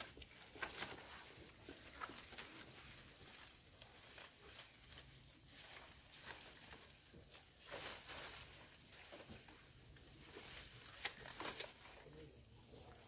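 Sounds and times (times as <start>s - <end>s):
goat tearing leaves: 0.0s - 13.0s.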